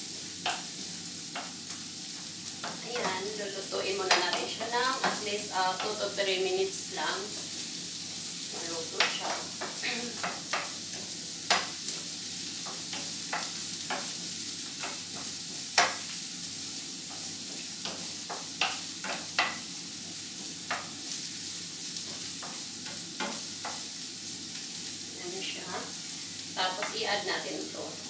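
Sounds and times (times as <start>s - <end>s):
vegetables sizzling in a frying pan: 0.0s - 28.0s
wooden spoon scraping a pan: 0.1s - 26.0s.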